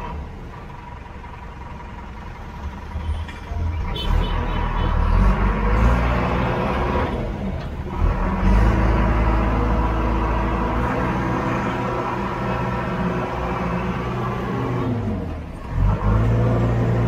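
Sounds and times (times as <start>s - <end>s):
diesel engine from inside cab: 0.0s - 17.0s.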